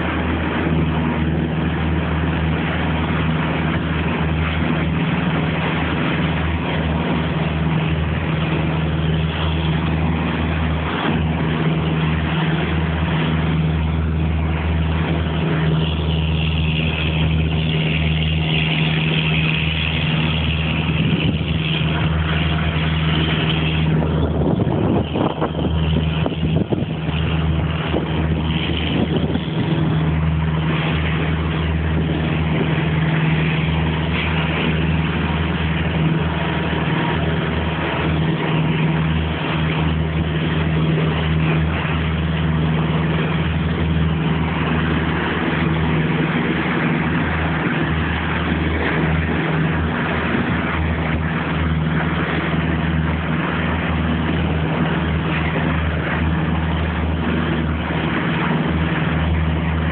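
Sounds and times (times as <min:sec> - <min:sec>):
boat engine droning: 0:00.0 - 0:59.9
constant rushing noise: 0:00.0 - 0:59.9.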